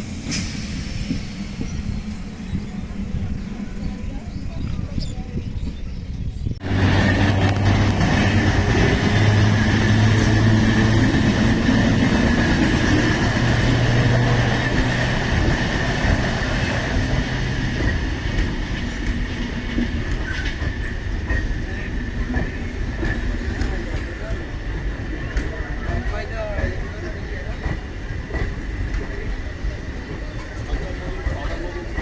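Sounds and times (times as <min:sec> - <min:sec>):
rail noise: 0:00.0 - 0:32.0.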